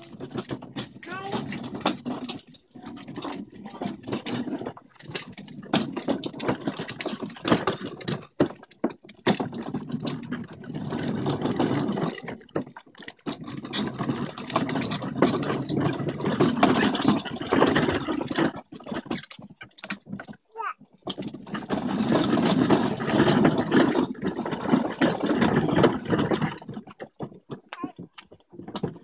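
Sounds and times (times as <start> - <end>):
plastic wheels rattling over paving: 0.0 - 29.0.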